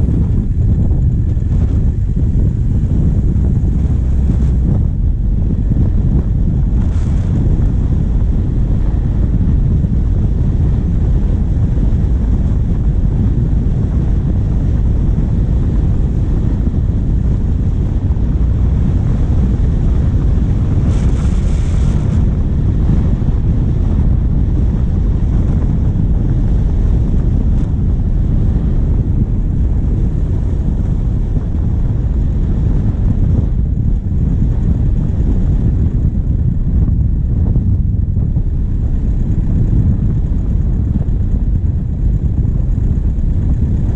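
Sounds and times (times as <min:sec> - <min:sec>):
diesel vehicle driving: 0:00.0 - 0:43.9
wind buffeting microphone: 0:00.0 - 0:43.9.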